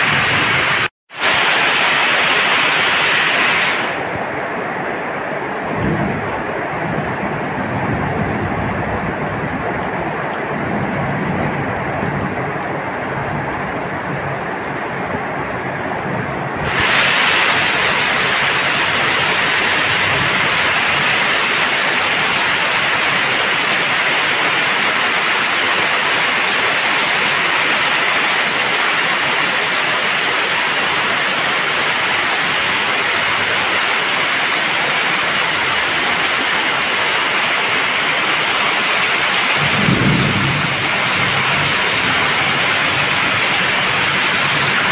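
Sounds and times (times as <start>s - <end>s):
heavy rain on pavement and roofs: 0.0s - 44.9s.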